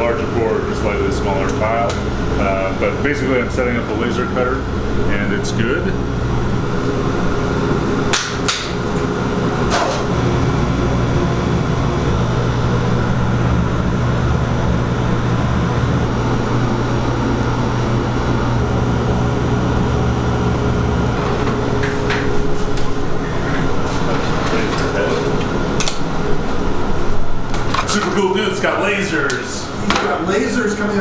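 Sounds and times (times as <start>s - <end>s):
laser cutter machine hum: 0.0s - 31.0s.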